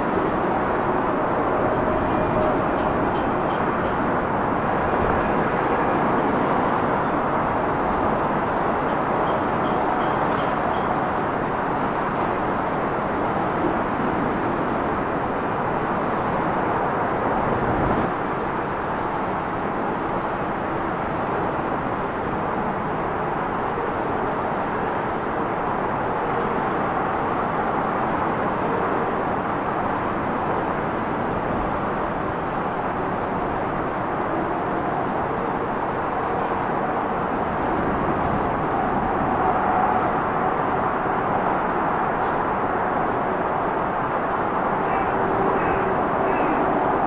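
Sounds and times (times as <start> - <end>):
turboprop engines roaring: 0.0 - 47.0.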